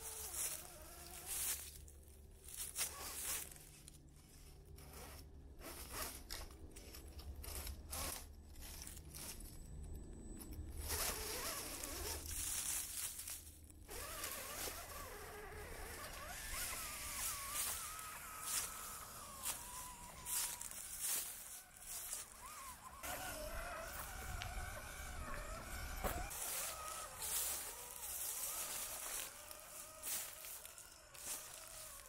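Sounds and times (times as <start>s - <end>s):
electric motor whine: 0.0s - 13.1s, 13.8s - 32.0s.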